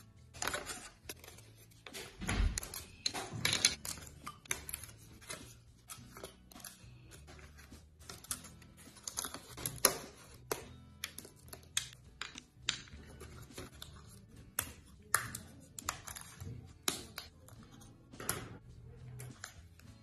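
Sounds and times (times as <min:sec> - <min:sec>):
plywood parts clicking and clattering: 0:00.2 - 0:20.0.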